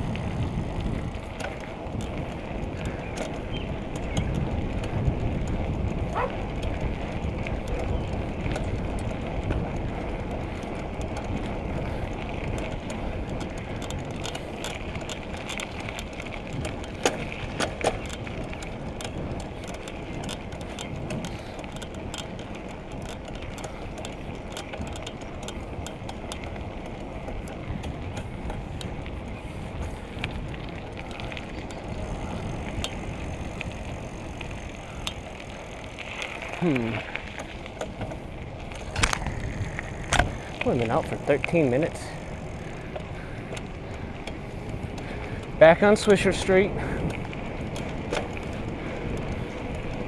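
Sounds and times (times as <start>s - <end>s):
bicycle clicks and rattles: 0.0s - 50.0s
tyres rolling on road: 0.0s - 50.0s
wind rumbling over microphone: 0.0s - 50.0s.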